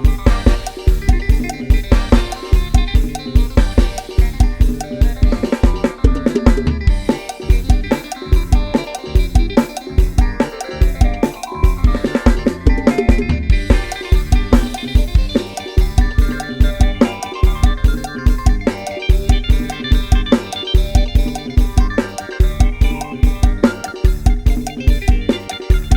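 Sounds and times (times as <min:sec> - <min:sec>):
melody line: 0:00.0 - 0:05.7, 0:07.0 - 0:25.9
bass: 0:00.0 - 0:25.9
fast drum beat: 0:00.0 - 0:25.9.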